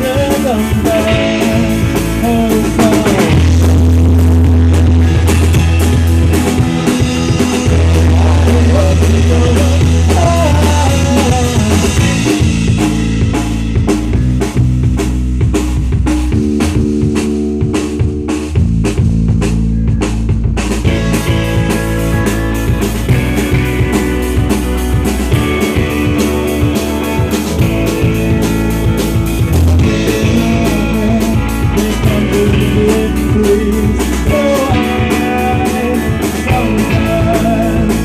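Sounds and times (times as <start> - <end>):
bass guitar: 0.0 - 38.0
drum kit beat: 0.0 - 38.0
electric guitar: 0.0 - 38.0.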